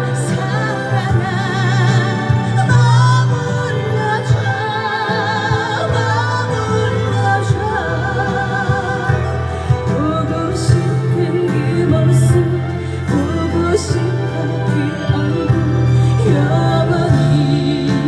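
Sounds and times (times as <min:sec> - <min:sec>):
bass and band backing: 0:00.0 - 0:18.0.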